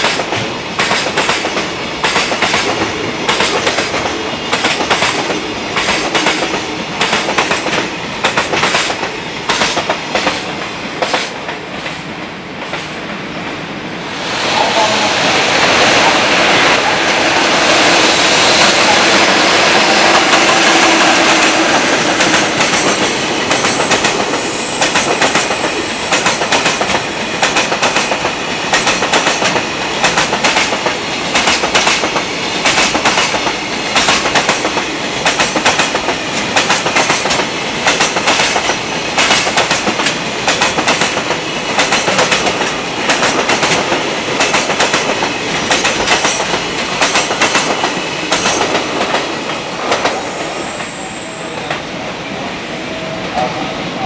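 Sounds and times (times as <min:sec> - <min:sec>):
train wheels clacking over rail joints: 0:00.0 - 0:12.0, 0:18.6 - 0:51.0
rolling roar of train: 0:00.0 - 0:54.0.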